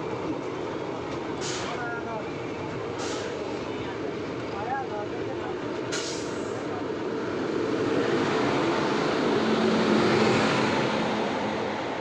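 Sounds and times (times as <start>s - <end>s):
train rushing on track: 0.0s - 12.0s.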